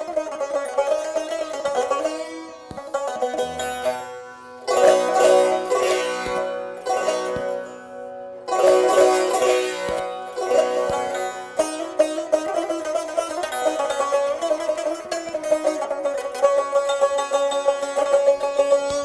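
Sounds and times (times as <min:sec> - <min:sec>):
plucked lute melody: 0:00.0 - 0:19.0.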